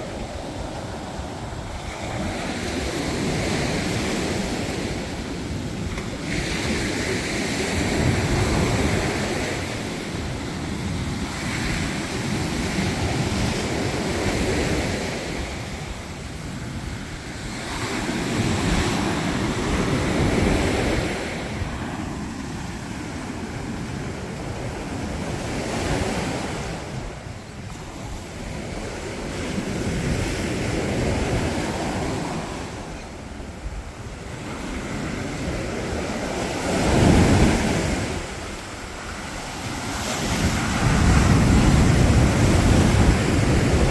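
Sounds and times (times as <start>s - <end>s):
waves breaking on shore: 0.0s - 43.9s
wind buffeting microphone: 0.0s - 43.9s.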